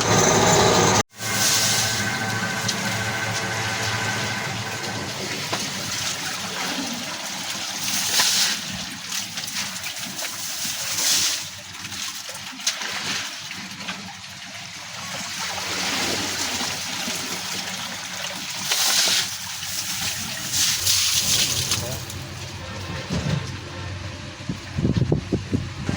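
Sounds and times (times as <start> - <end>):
water splashing and trickling: 1.1 - 24.8.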